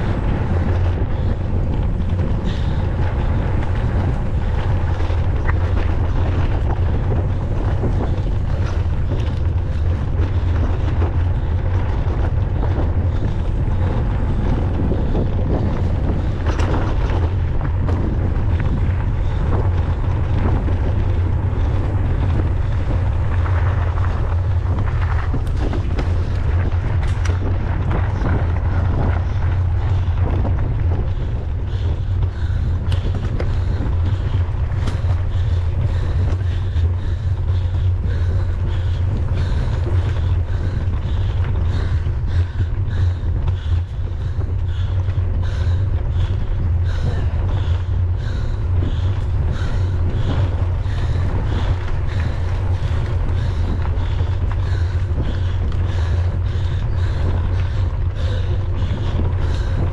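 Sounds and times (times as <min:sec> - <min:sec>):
bike clicks and rattles: 0:00.0 - 0:59.9
wind buffeting microphone: 0:00.0 - 0:59.9.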